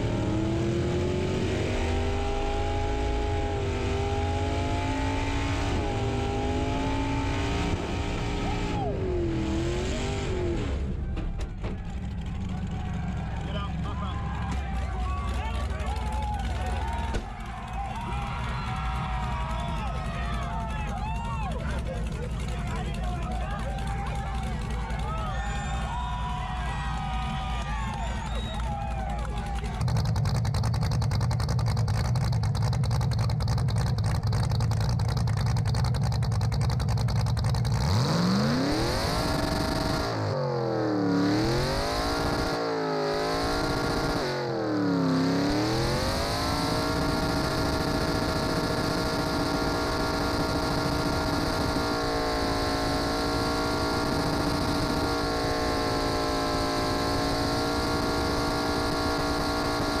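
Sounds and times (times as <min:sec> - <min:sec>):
truck engine idling and revving: 0:00.0 - 1:00.0
tyres spinning in burnout: 0:00.0 - 1:00.0.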